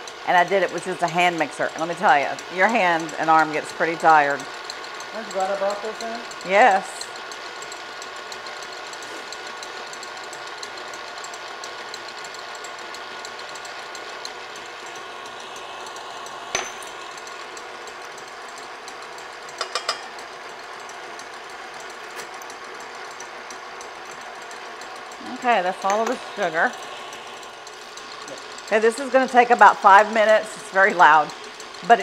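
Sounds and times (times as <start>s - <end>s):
stand mixer running: 0.0s - 32.0s.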